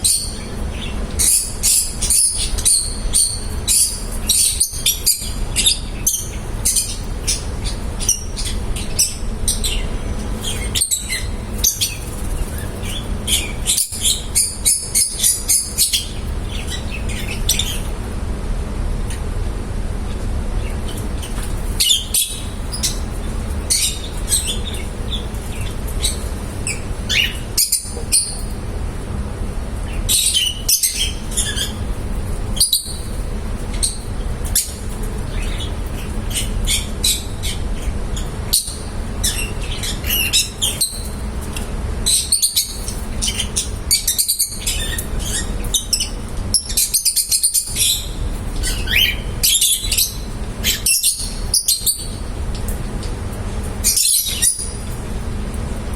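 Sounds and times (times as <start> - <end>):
lovebirds chirping: 0.0 - 18.0, 20.6 - 28.7, 29.8 - 53.2
steady low hum: 0.0 - 55.9.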